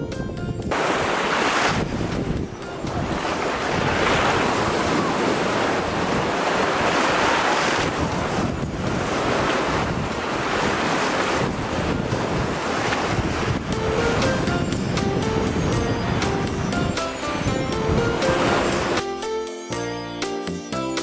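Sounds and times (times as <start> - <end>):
wind buffeting microphone: 0.0 - 19.0
waves washing over pebbles: 0.7 - 14.6, 15.3 - 19.0.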